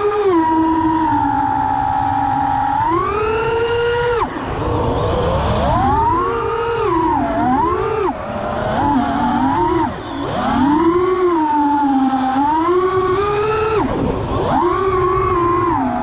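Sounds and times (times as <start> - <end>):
drone motors whining: 0.0 - 16.0
wind noise on microphone: 0.0 - 16.0.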